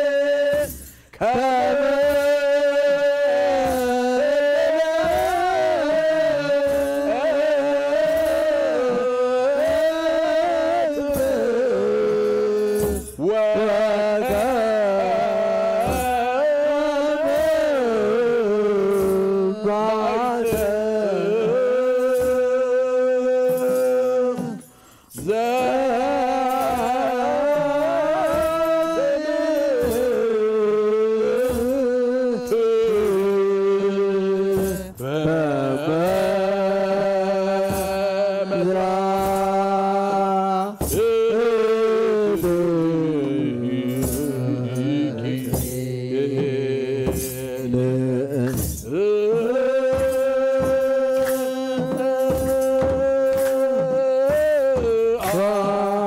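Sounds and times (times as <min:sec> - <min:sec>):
men chanting in unison: 0:00.0 - 0:56.0
slow drum beat: 0:00.0 - 0:56.0.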